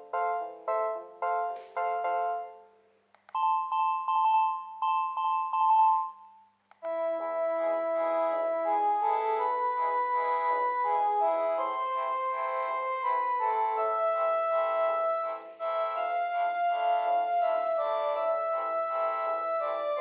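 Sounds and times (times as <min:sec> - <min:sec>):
phone ringtone melodies: 0:03.4 - 0:20.0.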